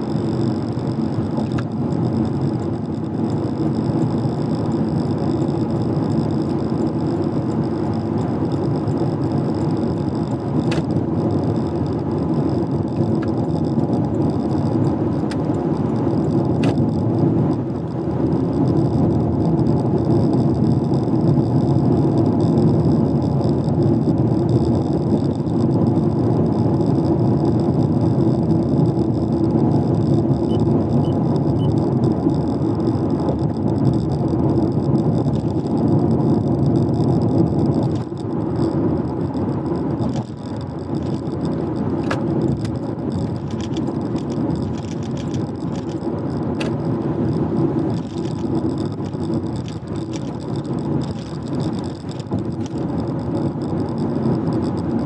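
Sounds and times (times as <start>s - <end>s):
car engine hum: 0.0s - 55.0s
tyre and road noise: 0.0s - 55.0s.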